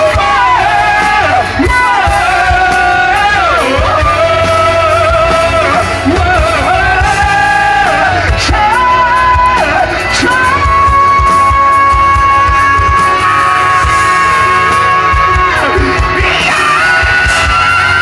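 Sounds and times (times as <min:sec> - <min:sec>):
live rock band playing: 0:00.0 - 0:18.0
person singing long notes: 0:00.0 - 0:18.0.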